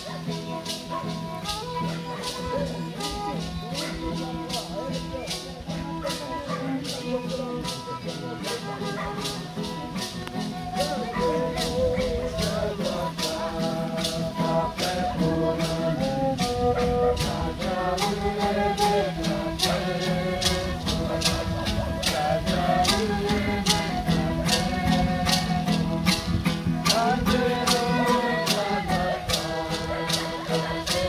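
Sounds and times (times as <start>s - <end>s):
strummed guitar: 0.0s - 31.0s
violin melody: 0.0s - 31.0s.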